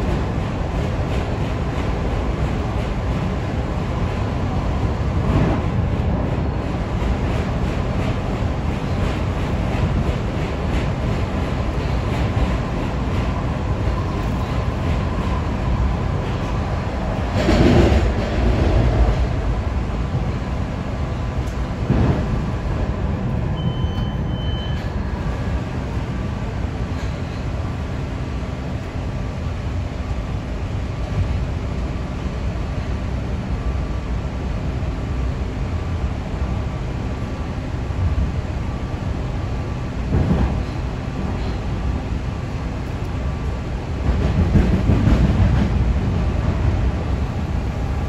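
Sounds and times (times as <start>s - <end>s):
train wheels and motors rumbling: 0.0s - 48.0s.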